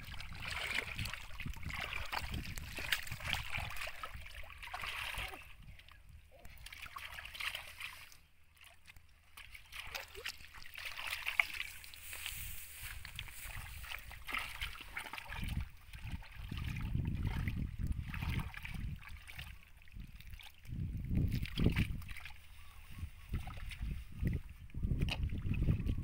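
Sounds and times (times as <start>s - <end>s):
muddy water sloshing: 0.0s - 26.0s.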